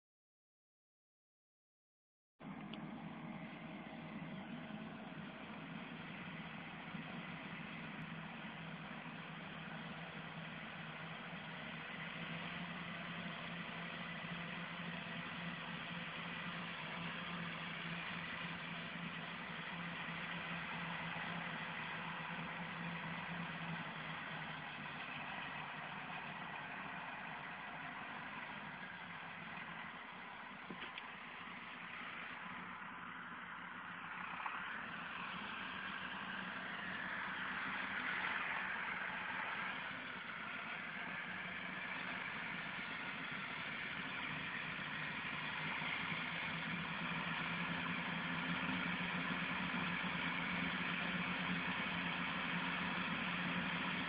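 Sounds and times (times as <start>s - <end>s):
tractor and harvester running: 2.4s - 54.0s.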